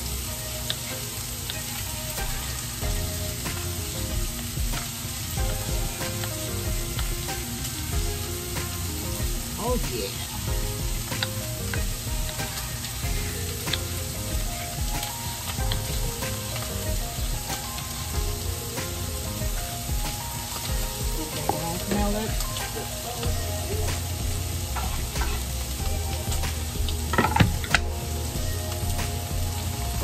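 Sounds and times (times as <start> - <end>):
onions sizzling in a pan: 0.0 - 30.0.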